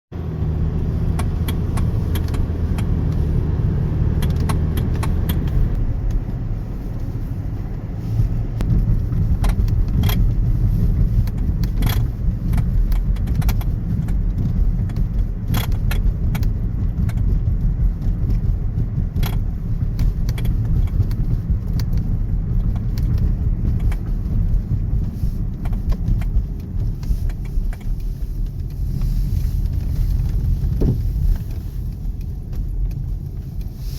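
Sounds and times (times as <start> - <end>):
road and engine rumble: 0.0 - 33.9
steering rattle knocks: 0.6 - 7.1, 8.6 - 33.7.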